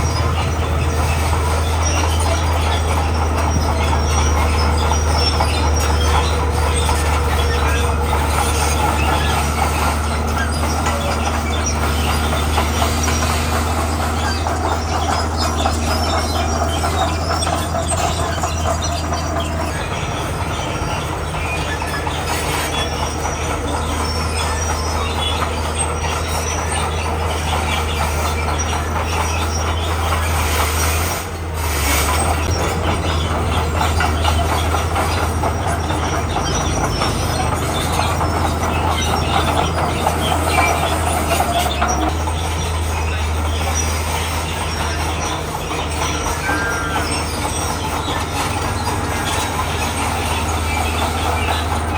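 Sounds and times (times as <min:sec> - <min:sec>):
bulldozer diesel engine: 0:00.0 - 0:51.9
steel tracks clanking and squealing: 0:00.0 - 0:51.9.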